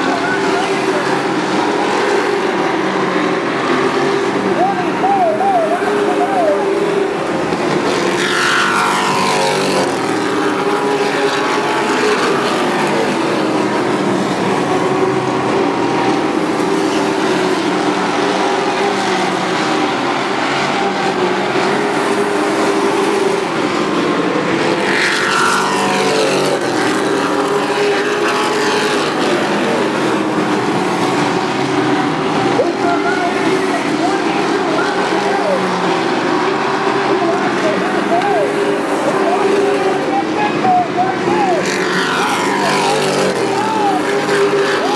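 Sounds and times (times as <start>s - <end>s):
race truck engines passing: 0.0s - 44.9s.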